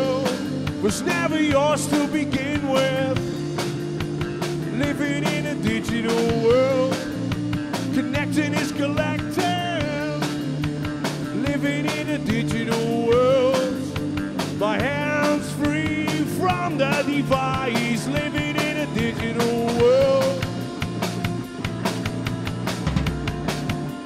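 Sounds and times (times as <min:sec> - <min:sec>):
bass line: 0:00.0 - 0:24.0
drums keeping steady beat: 0:00.0 - 0:24.0
lead melody with bending notes: 0:00.0 - 0:24.0.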